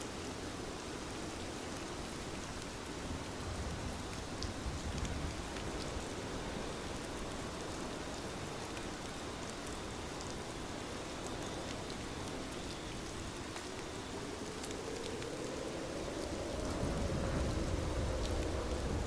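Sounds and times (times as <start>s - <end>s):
steady rain falling: 0.0s - 19.0s
raindrop ticks: 1.7s - 6.0s, 6.8s - 19.0s.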